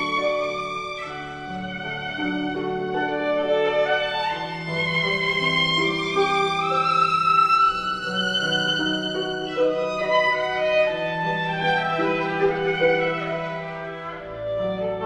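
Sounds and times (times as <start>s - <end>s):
slow violin melody: 0.0s - 15.0s.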